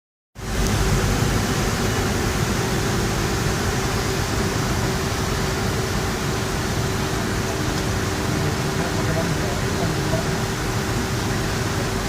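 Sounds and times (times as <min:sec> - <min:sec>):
aircraft engines roaring: 0:00.4 - 0:12.0.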